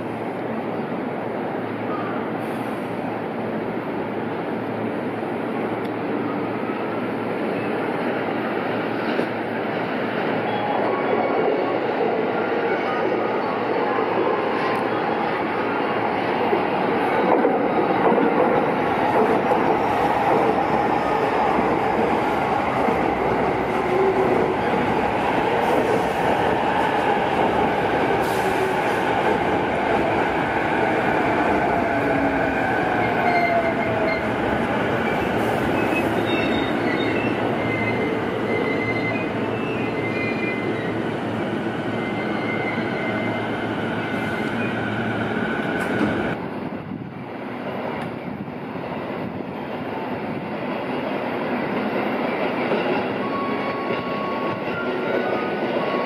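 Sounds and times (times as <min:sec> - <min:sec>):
electric train rumbling on rails: 0:00.0 - 0:56.0.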